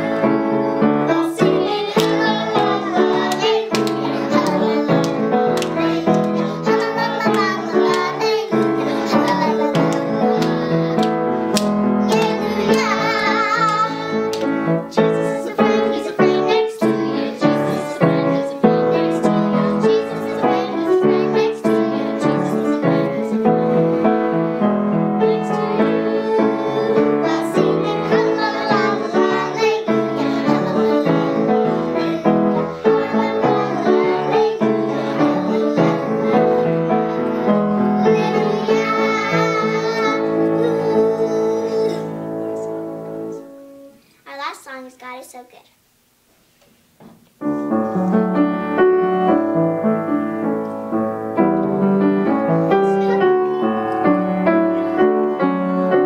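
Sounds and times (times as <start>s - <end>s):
grand piano: 0.0s - 44.4s, 47.4s - 56.0s
girls singing children's song: 0.0s - 44.7s, 51.3s - 56.0s.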